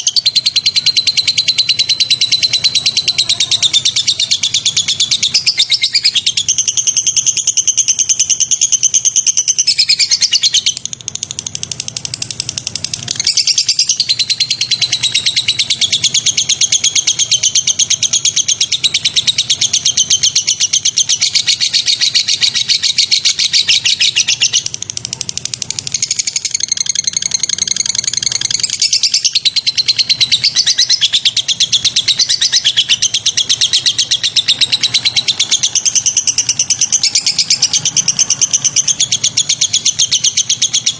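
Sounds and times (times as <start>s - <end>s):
songbird trilling: 0.0s - 40.9s.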